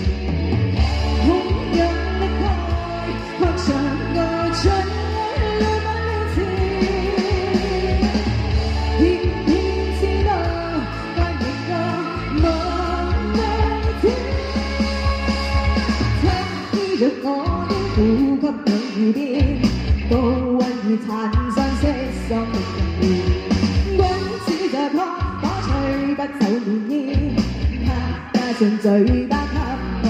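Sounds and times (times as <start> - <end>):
amplified backing music with bass beat: 0.0 - 30.0
woman singing into microphone: 1.0 - 30.0.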